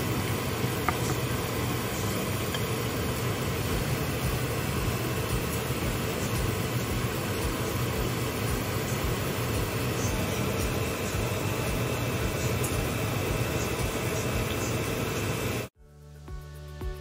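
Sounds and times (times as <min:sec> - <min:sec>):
low steady hum: 0:00.0 - 0:15.7
sauce simmering hiss: 0:00.0 - 0:15.7.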